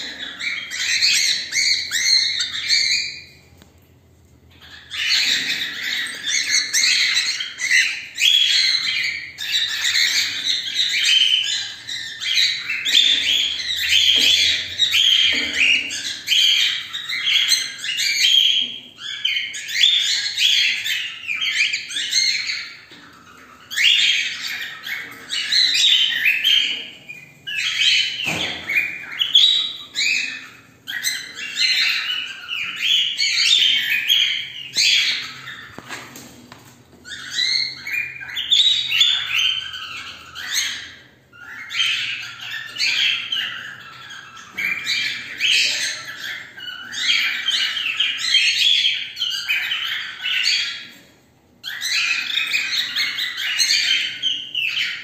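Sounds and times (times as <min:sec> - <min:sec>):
cockatiels chirping: 0:00.0 - 0:55.0.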